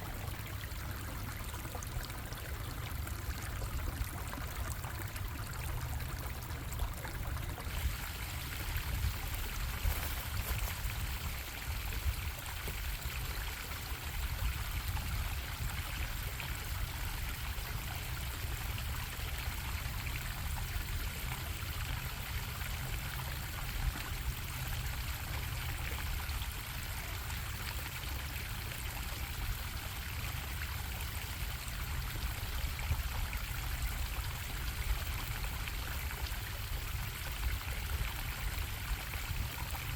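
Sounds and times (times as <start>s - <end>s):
stream bubbling over rocks: 0.0s - 39.9s.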